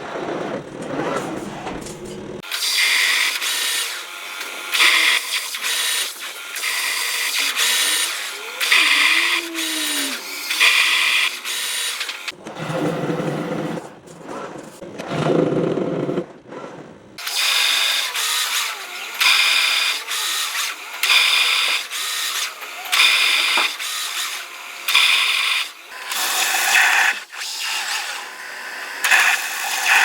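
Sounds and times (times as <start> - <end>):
saw cutting metal: 1.0 - 13.6, 17.2 - 30.0.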